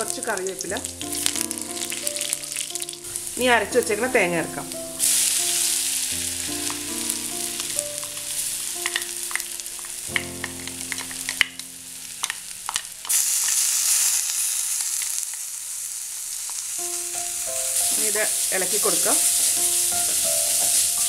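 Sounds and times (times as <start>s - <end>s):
oil sizzling: 0.0s - 21.0s.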